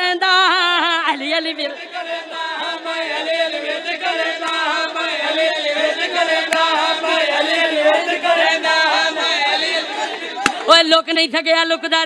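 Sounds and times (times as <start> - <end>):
crowd of men chanting: 0.6 - 11.1.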